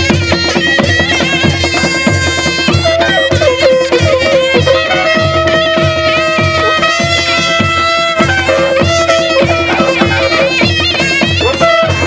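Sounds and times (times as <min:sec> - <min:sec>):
shawm-like wind instrument melody: 0:00.0 - 0:12.0
steady drum beat: 0:00.0 - 0:12.0.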